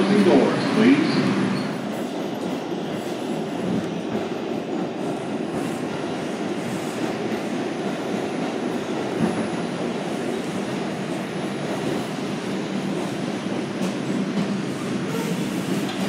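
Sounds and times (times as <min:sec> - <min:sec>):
subway car wheels rumbling: 0:00.0 - 0:16.0.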